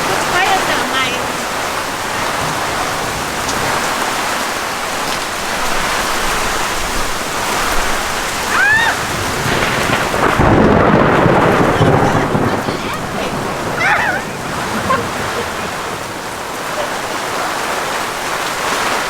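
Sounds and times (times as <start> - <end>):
heavy rain hissing: 0.0 - 19.0
thunder rumble: 0.0 - 19.0.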